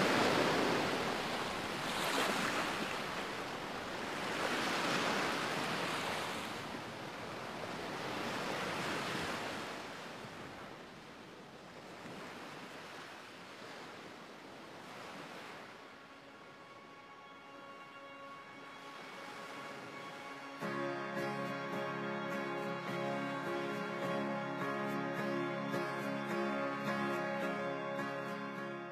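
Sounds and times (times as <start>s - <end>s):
surf washing on beach: 0.0s - 28.3s.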